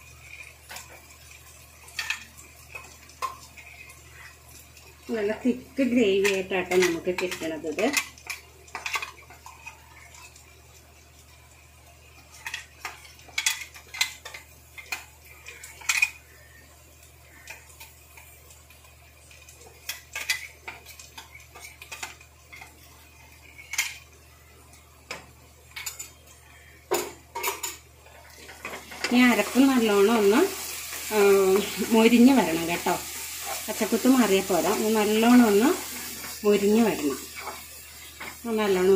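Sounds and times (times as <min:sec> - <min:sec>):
utensils clinking against cookware: 0:00.2 - 0:10.5, 0:12.3 - 0:16.3, 0:17.3 - 0:24.1, 0:25.1 - 0:38.9.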